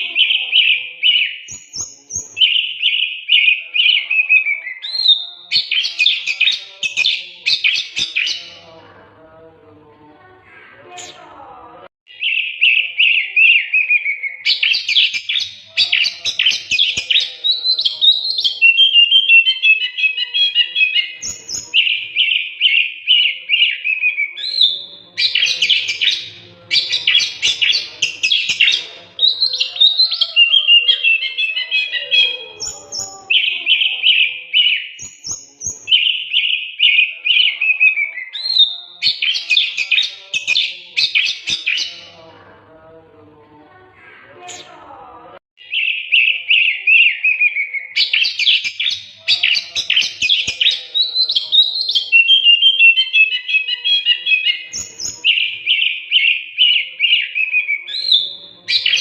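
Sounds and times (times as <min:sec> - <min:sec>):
bird singing: 0:00.0 - 0:09.4, 0:12.1 - 0:42.4, 0:45.6 - 0:59.0.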